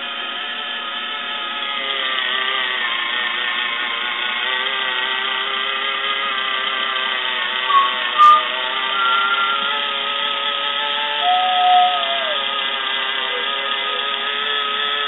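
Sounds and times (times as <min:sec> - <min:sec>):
can opener motor whirring: 0:00.0 - 0:15.0.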